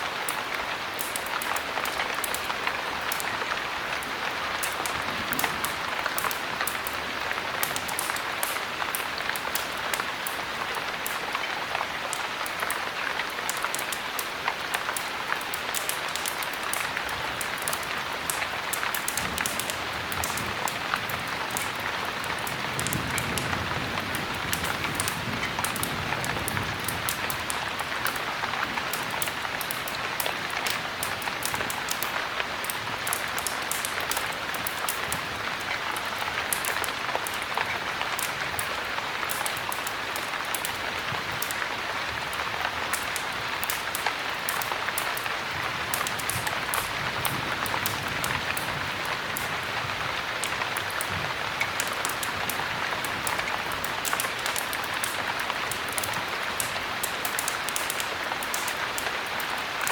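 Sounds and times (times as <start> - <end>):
heavy rain pattering: 0.0 - 59.9
wood fire crackling: 0.0 - 59.9.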